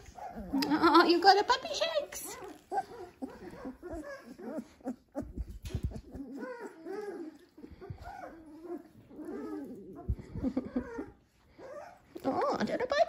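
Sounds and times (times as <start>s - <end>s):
puppy whining and grunting: 0.0s - 13.0s.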